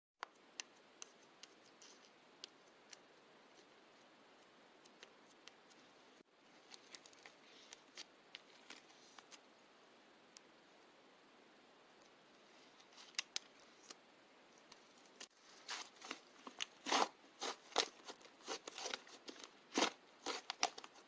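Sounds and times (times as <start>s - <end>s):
low hiss: 0.2s - 21.0s.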